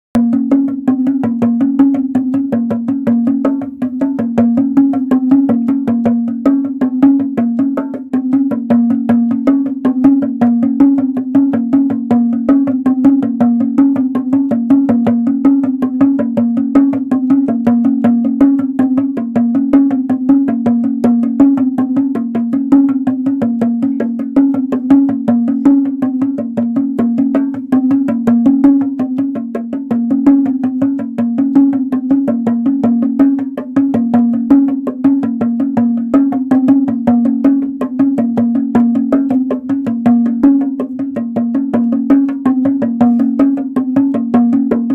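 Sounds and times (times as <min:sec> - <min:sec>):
hand drum finger taps: 0:00.2 - 0:44.9.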